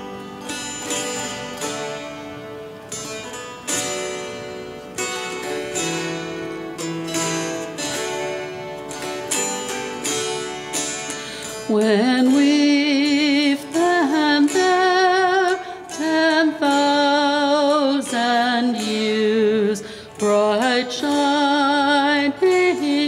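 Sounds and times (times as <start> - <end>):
dulcimers strumming slow tune: 0.0 - 23.0.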